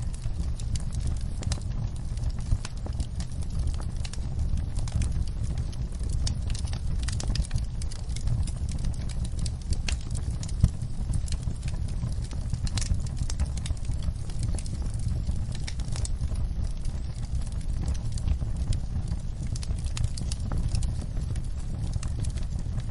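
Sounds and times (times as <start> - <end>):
flames rumbling: 0.0 - 22.9
wood fire crackling: 0.0 - 22.9.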